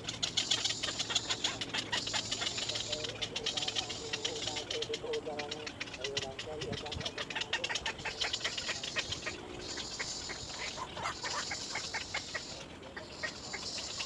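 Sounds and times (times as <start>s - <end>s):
baby birds chirping: 0.0s - 14.0s.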